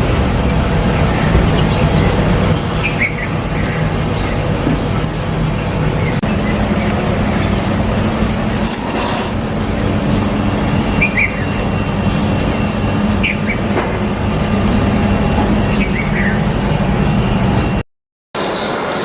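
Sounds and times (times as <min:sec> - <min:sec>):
low mechanical drone: 0:00.0 - 0:17.8.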